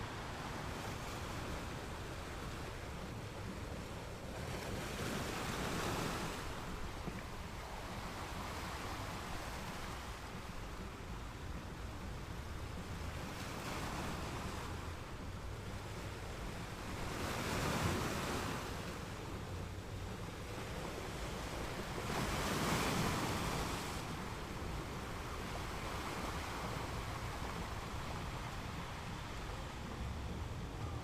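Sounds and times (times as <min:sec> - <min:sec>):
ocean waves breaking: 0:00.0 - 0:31.0.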